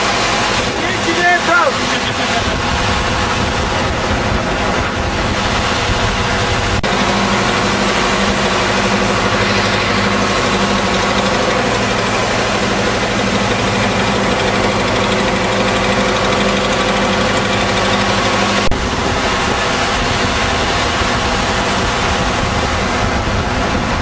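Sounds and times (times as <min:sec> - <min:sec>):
boat engines droning: 0:00.0 - 0:24.0.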